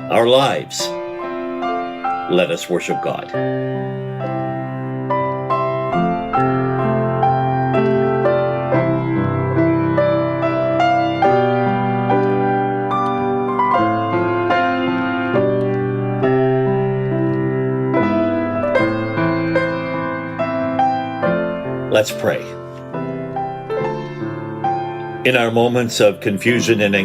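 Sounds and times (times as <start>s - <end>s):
slow piano music: 0.0s - 27.0s.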